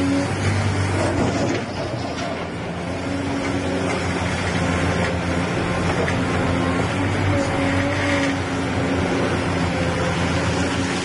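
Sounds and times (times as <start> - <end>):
excavator diesel engines running: 0.0 - 11.0.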